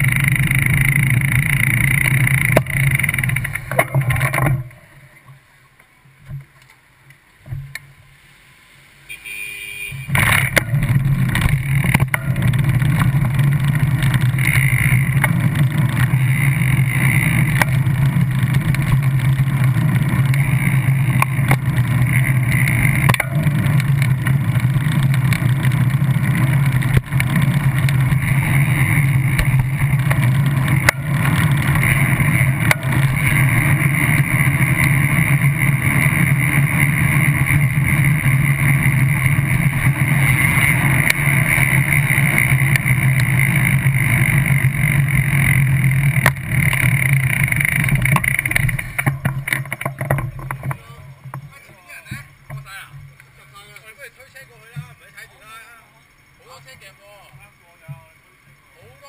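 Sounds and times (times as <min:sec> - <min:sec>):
vehicle rumble and hum: 0:00.0 - 0:59.0.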